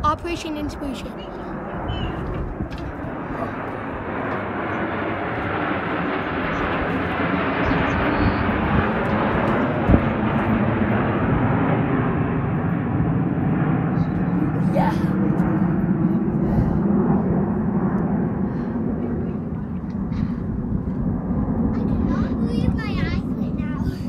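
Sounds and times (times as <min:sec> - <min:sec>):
jets rumbling overhead: 0:00.0 - 0:24.0.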